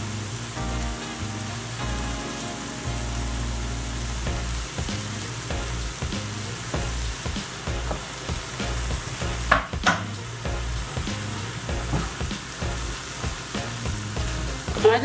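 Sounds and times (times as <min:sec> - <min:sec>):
vegetables sizzling in a skillet: 0:00.0 - 0:15.0.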